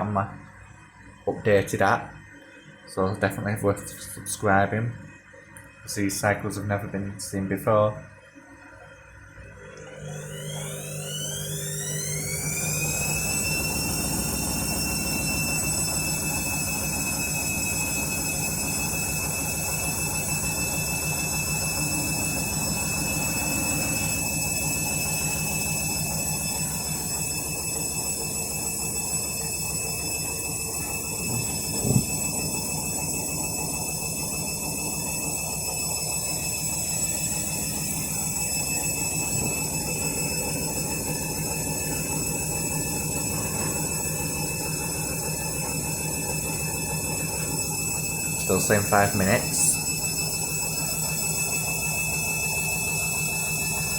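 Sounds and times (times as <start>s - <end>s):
washing machine drum spinning: 9.2s - 53.9s.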